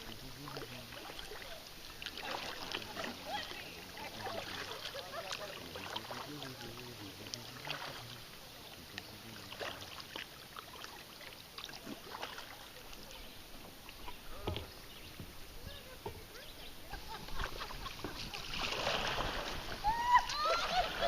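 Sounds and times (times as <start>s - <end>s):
small splashes and drips: 0.0s - 16.2s, 17.3s - 21.0s
paddle dipping into water: 0.0s - 21.0s.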